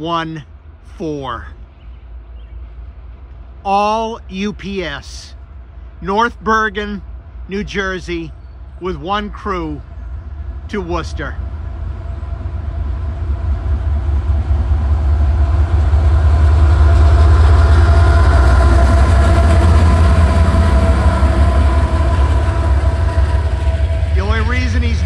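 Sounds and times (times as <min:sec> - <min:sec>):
diesel locomotives passing: 0:00.0 - 0:25.0.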